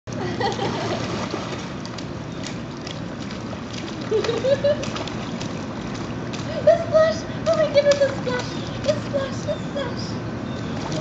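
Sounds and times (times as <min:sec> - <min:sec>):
steady wash of water: 0:00.1 - 0:11.0.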